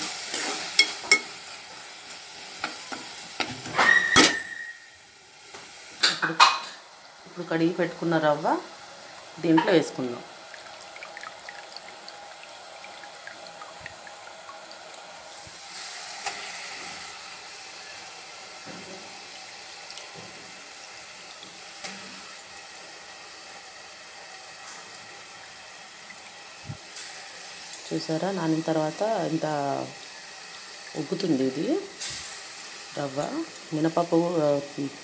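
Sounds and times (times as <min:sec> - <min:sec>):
vegetables sizzling in a cooker: 0:00.0 - 0:35.0.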